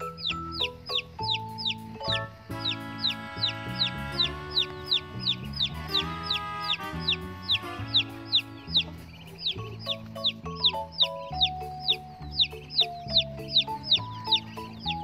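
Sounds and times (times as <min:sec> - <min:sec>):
background music with chords: 0:00.0 - 0:15.0
chicks peeping: 0:00.0 - 0:15.0.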